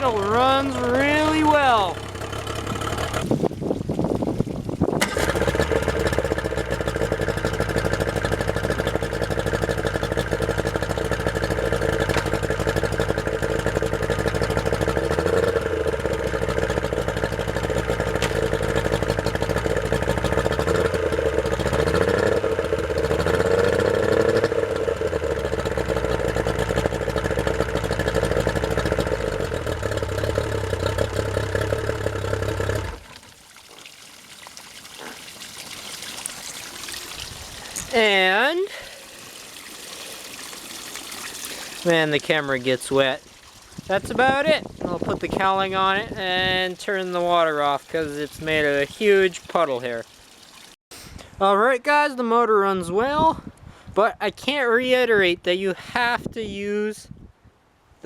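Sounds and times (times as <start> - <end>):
outboard motor idling: 0.0 - 33.8, 34.9 - 50.2
running water from hose: 0.0 - 50.8.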